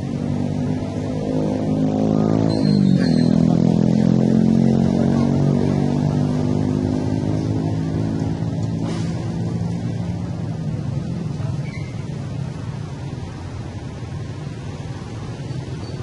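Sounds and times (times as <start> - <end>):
engine hum: 0.0 - 16.0.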